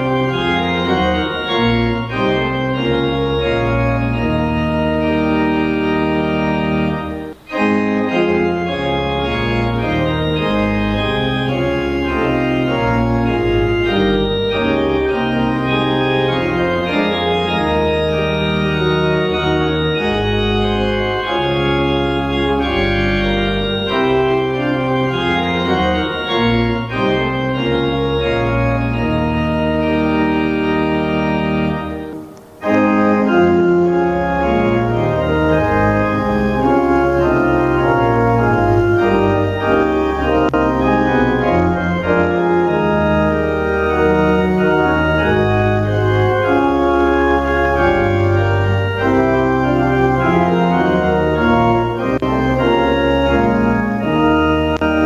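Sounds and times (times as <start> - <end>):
organ playing hymn chords: 0.0 - 55.0.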